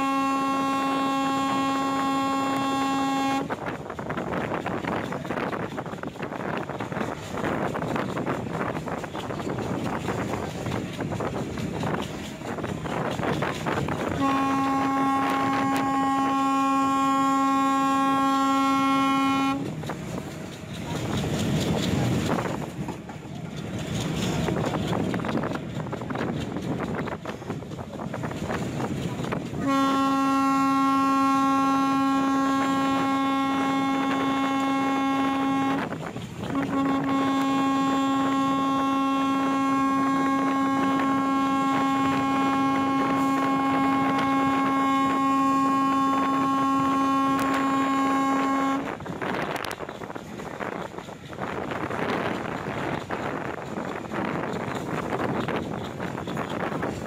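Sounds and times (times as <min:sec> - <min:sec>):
moving train rumble: 0:00.0 - 0:57.0
train horn blasts: 0:00.0 - 0:57.0
wind: 0:00.0 - 0:57.0.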